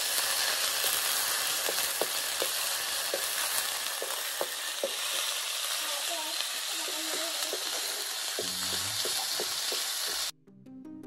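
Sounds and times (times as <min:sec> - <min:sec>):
garlic sizzling in hot oil: 0:00.0 - 0:10.3.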